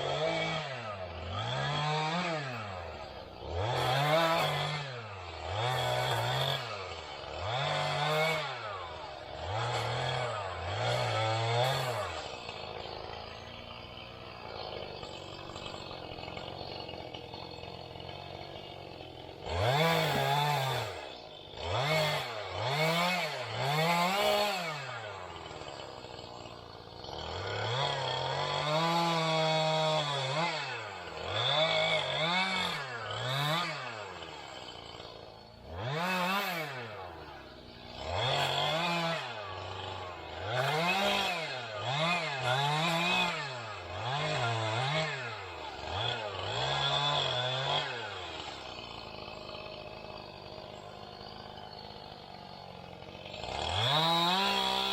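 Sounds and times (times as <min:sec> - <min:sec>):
chainsaw revving: 0:00.0 - 0:54.9.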